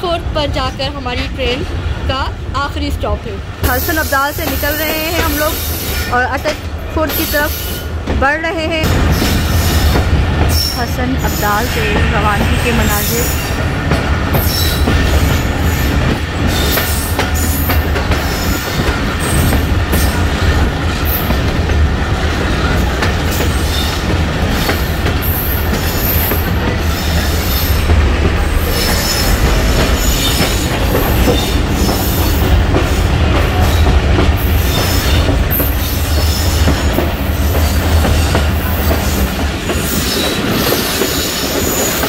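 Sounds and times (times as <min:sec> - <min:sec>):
train rumbling: 0:00.0 - 0:42.0
train wheels screeching: 0:03.6 - 0:08.1, 0:08.8 - 0:21.6, 0:22.4 - 0:42.0.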